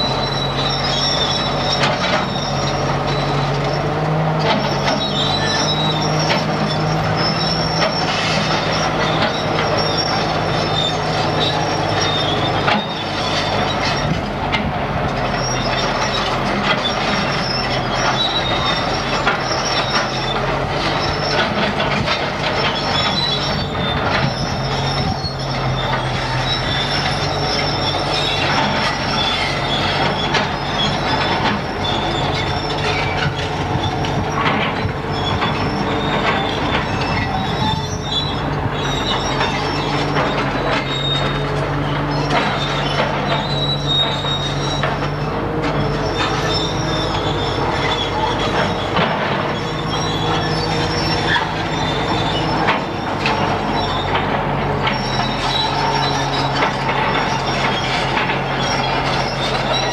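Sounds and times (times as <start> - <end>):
diesel engine drone: 0.0 - 59.9
high-pitched metal squeals: 0.0 - 59.9.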